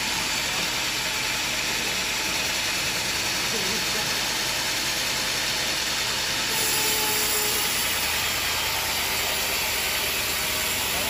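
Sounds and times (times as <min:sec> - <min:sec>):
band saw cutting wood: 0:00.0 - 0:11.0.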